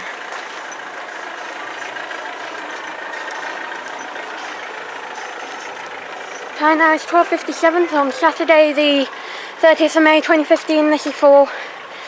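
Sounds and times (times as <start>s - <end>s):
road vehicle engines running: 0.0s - 12.0s.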